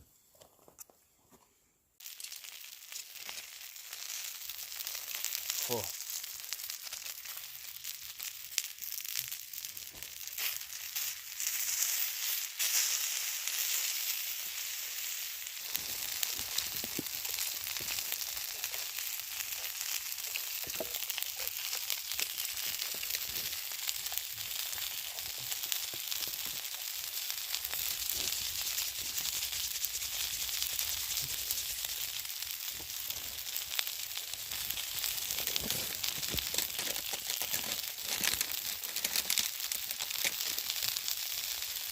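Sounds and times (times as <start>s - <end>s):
food sizzling over campfire: 2.0s - 41.9s.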